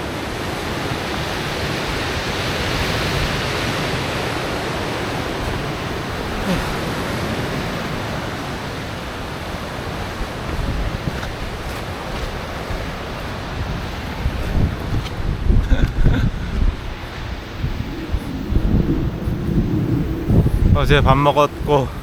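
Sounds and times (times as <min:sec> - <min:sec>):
sea surf rushing: 0:00.0 - 0:22.0
wind on microphone: 0:01.7 - 0:22.0.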